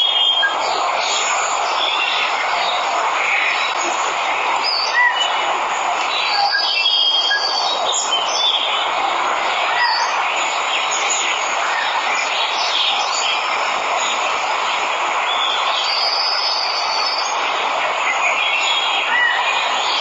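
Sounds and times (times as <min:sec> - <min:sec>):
birds chirping: 0:00.0 - 0:20.0
falling water rushing: 0:00.0 - 0:20.0.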